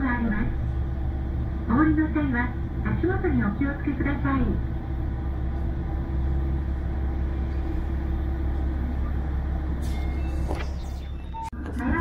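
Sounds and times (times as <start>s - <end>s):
diesel railcar engine idling: 0.0s - 12.0s.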